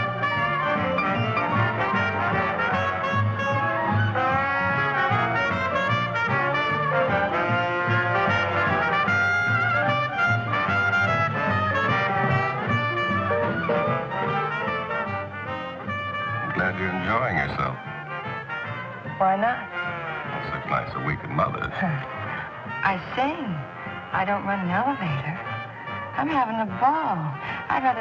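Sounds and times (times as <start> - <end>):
jazz band playing: 0.0 - 28.0
trumpets and trombones: 0.0 - 28.0.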